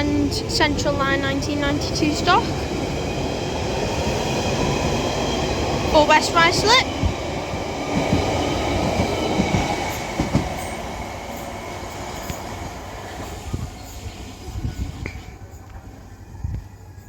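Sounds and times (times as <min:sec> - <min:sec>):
tube train pulling out: 0:00.0 - 0:17.0.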